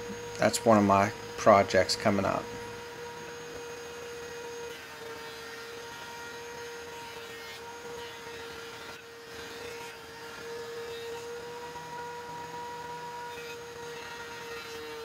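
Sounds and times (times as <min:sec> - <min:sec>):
thickness planer whine: 0:00.0 - 0:15.0.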